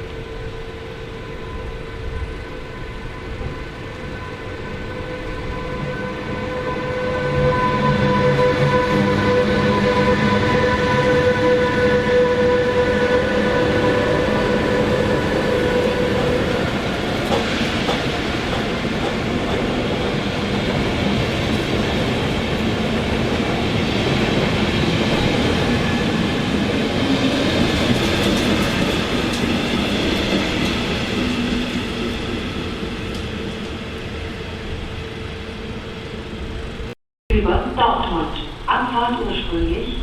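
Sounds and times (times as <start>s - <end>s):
train wheels running on track: 0.0s - 36.9s.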